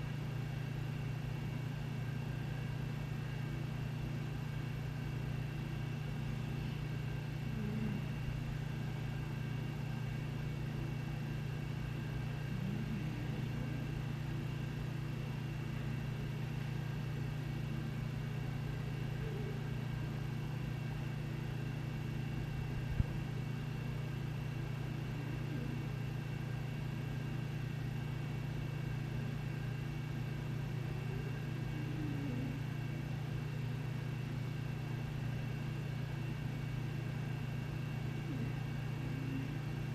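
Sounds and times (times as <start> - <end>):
room tone hum: 0.0 - 39.9.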